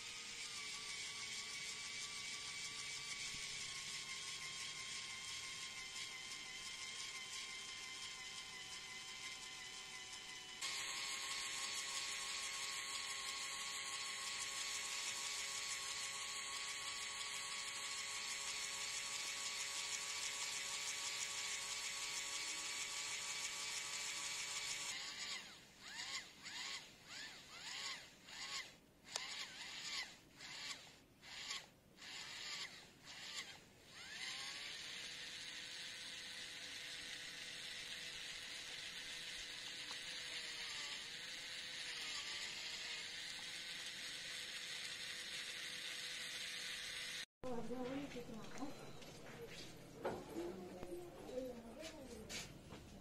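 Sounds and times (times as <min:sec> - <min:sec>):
small motor whining: 0:00.0 - 0:53.0.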